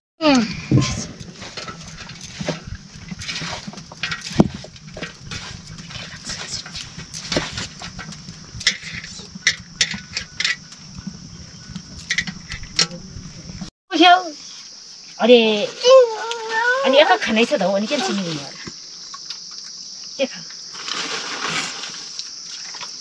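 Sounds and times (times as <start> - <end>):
high insect drone: 0.5 - 23.0.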